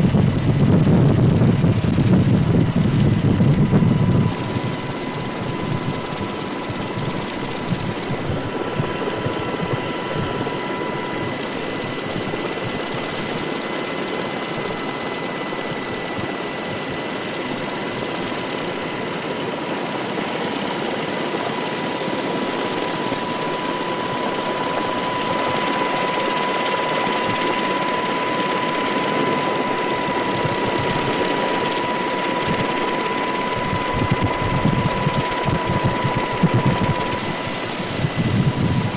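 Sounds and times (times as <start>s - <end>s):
aircraft engine rush: 0.0s - 38.9s
high engine whine: 0.0s - 38.9s.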